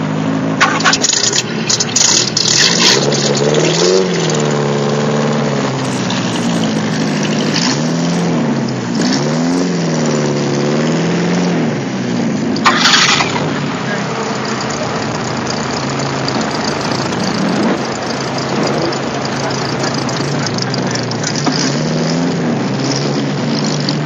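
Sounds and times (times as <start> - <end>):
car engine revving: 0.5 - 24.0.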